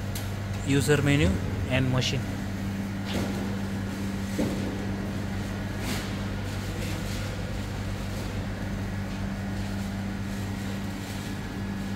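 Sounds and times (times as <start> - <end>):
low mechanical hum: 0.0 - 11.9.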